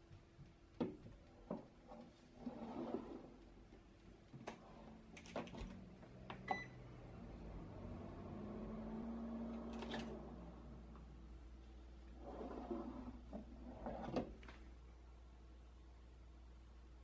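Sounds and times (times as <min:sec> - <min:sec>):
oven running hum: 0:00.0 - 0:16.8.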